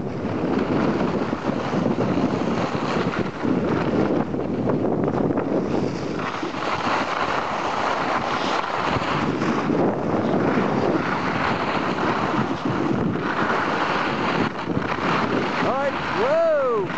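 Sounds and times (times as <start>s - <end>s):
skis scraping over snow: 0.0s - 16.9s
wind rushing over microphone: 0.0s - 16.9s.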